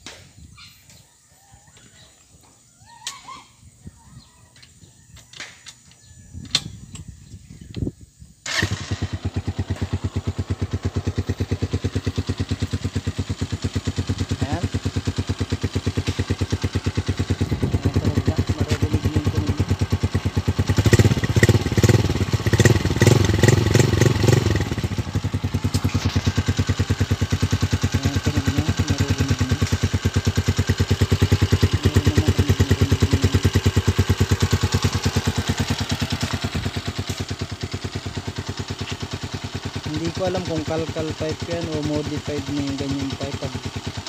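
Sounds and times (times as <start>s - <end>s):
motorcycle engine idling and revving: 3.6s - 44.0s.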